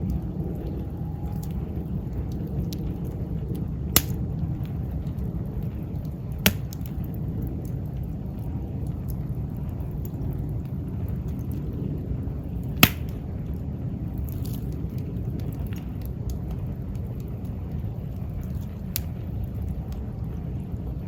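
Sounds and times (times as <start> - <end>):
campfire crackling: 0.0 - 21.0
fire popping loudly: 0.6 - 10.3, 11.2 - 20.0.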